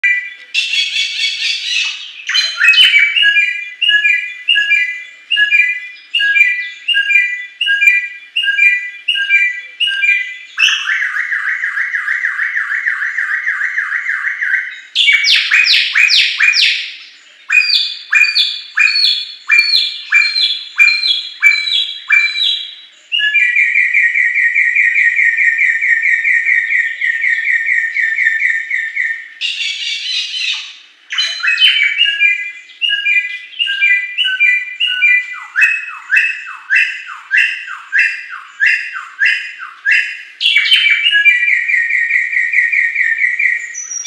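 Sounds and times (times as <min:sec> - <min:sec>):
bird singing whistled song: 0:00.0 - 0:44.0
harsh bird call: 0:00.0 - 0:44.0.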